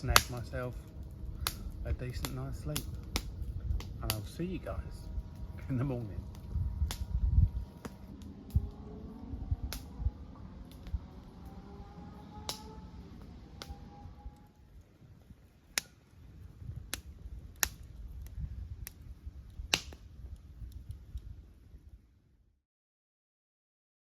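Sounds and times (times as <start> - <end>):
campfire crackling and popping: 0.0 - 11.6, 12.2 - 22.0
low rumble: 0.0 - 22.4.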